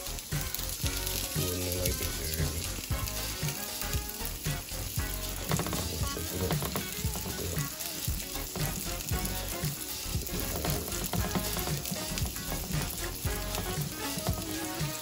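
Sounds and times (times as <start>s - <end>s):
batter sizzling in a frying pan: 0.0s - 15.0s.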